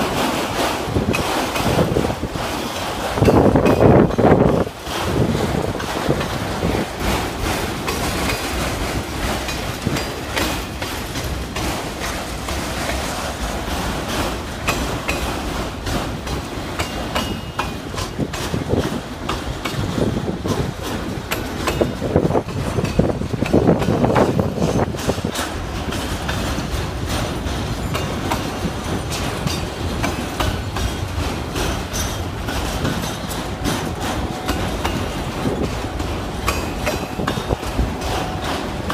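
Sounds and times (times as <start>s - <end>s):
train rumble: 0.0s - 38.9s
wheels clacking over rail joints: 0.0s - 38.9s.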